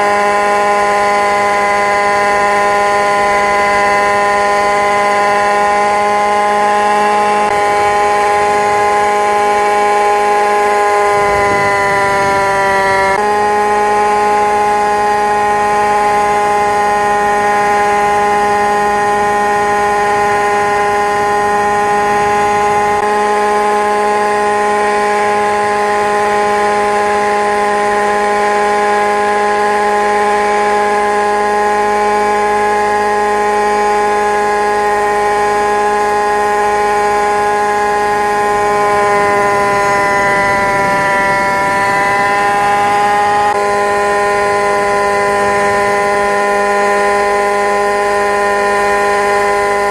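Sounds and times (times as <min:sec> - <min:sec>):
model helicopter motor whine: 0:00.0 - 0:49.9.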